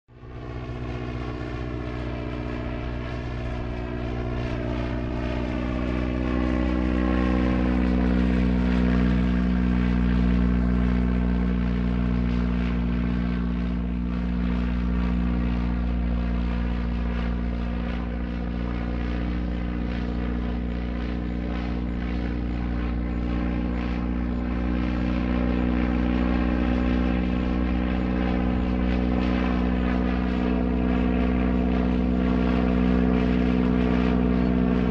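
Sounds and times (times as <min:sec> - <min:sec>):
propeller airplane engine hum: 0:00.1 - 0:34.9.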